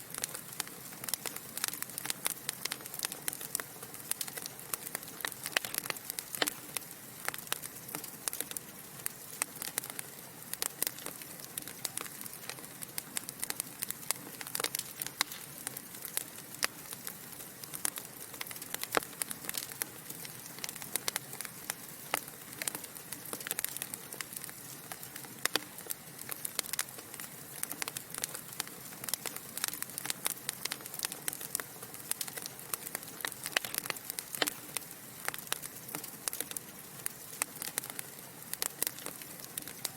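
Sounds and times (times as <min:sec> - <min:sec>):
soft fire hiss: 0:00.0 - 0:39.9
wood fire crackling and popping: 0:00.0 - 0:39.9.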